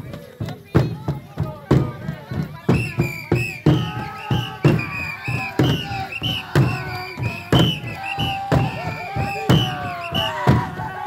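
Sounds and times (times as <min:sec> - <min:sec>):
crowd voices: 0:00.0 - 0:11.0
drum beating steadily: 0:00.0 - 0:11.0.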